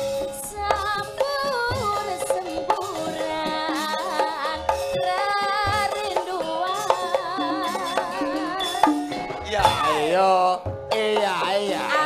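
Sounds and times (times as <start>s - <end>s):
drum strokes: 0.0s - 12.0s
gamelan accompaniment: 0.0s - 12.0s
woman singing with vibrato: 0.2s - 10.2s.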